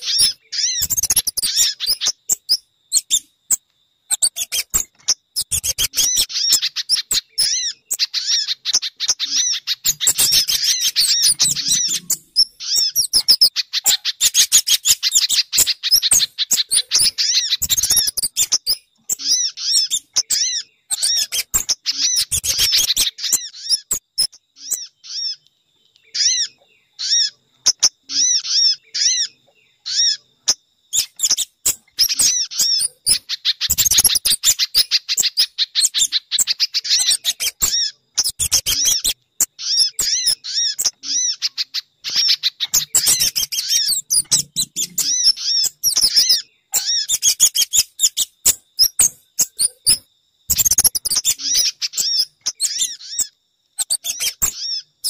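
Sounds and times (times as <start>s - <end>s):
high sharp bird chirps and trills: 0.0s - 55.0s.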